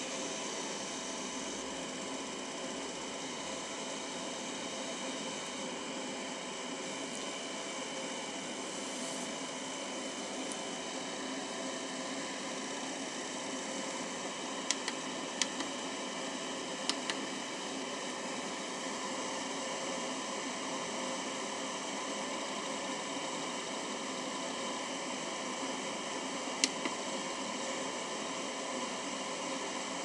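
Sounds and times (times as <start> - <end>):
faint hum tones: 0.0 - 30.0
fan whir and hiss: 0.0 - 30.0.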